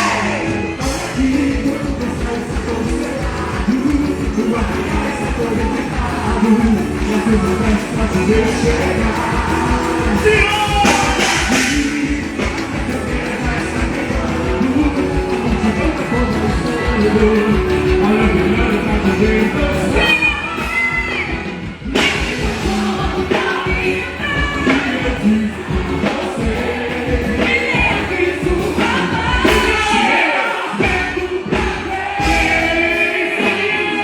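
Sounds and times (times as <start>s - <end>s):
pulsing beat: 0.0s - 30.0s
music with singing: 0.0s - 34.0s.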